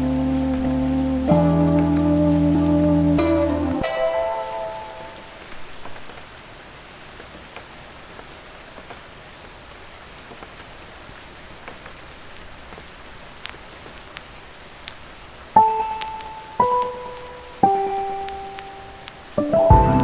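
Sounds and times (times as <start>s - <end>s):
raindrops ticking: 0.0s - 6.4s, 10.1s - 20.0s
rain on hard surfaces: 0.0s - 20.0s.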